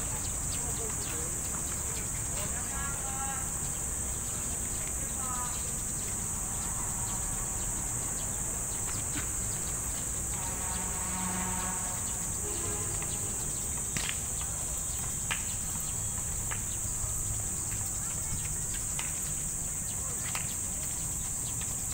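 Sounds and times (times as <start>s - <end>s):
high-pitched insect drone: 0.0s - 18.4s.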